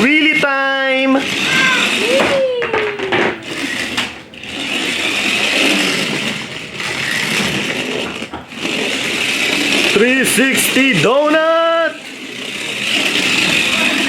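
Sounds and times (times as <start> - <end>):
toy truck electric motor whirring: 0.0 - 14.0.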